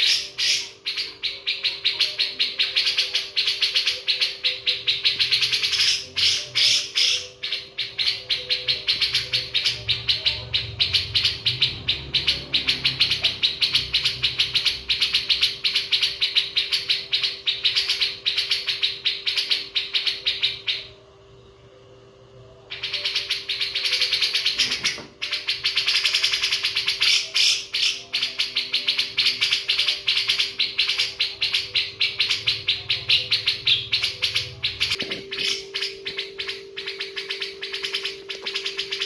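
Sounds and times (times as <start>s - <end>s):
birds chirping rapidly: 0.0s - 21.0s, 22.7s - 39.0s
steady low hum: 0.0s - 39.0s.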